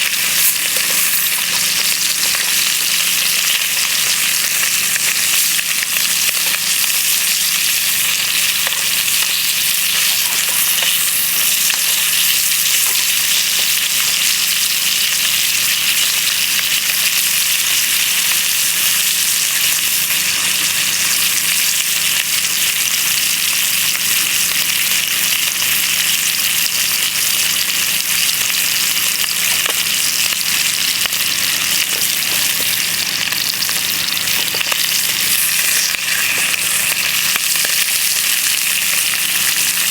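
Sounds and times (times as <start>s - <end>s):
bacon and eggs sizzling in a pan: 0.0s - 39.9s.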